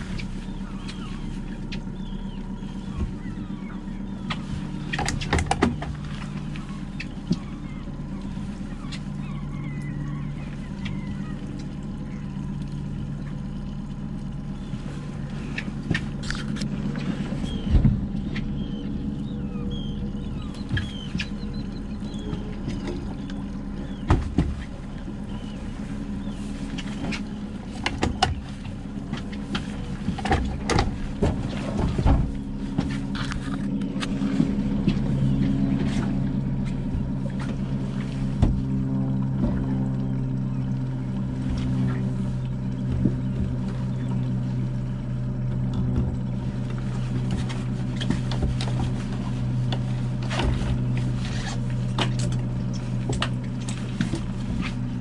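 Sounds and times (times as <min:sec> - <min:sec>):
outboard motor humming: 0:00.0 - 0:55.0.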